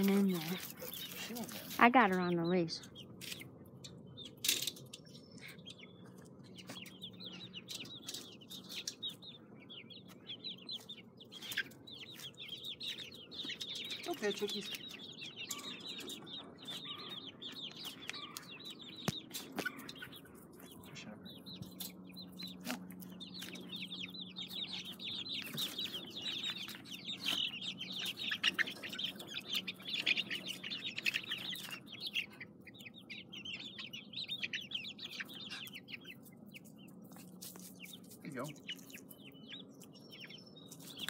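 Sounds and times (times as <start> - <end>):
chicks peeping: 0.0 - 41.0.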